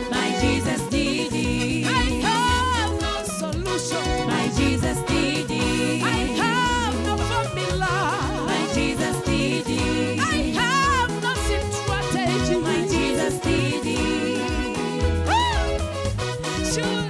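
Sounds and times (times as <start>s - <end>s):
live gospel band music: 0.0s - 17.0s.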